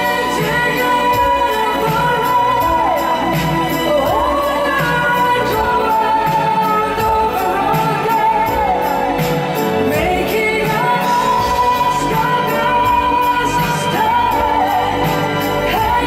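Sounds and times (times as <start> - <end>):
band accompaniment: 0.0 - 16.0
woman singing into microphone: 0.0 - 16.0.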